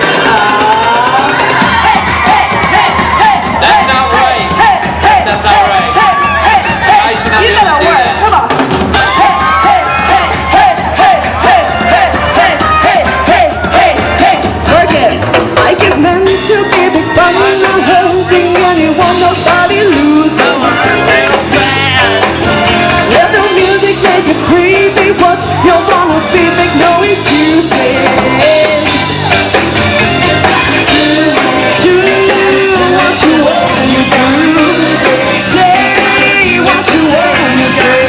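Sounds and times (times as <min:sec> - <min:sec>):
lead vocal singing: 0:00.0 - 0:38.0
live band playing pop song: 0:00.0 - 0:38.0.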